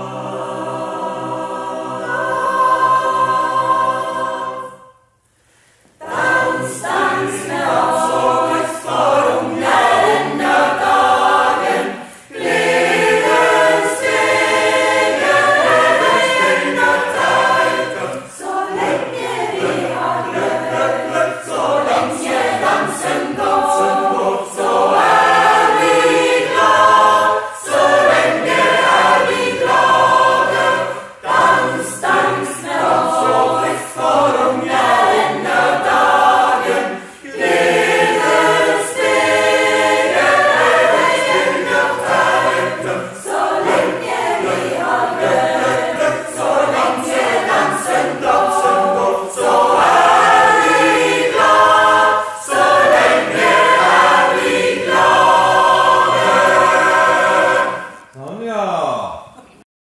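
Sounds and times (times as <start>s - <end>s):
choir singing: 0.0s - 5.2s, 5.8s - 58.4s.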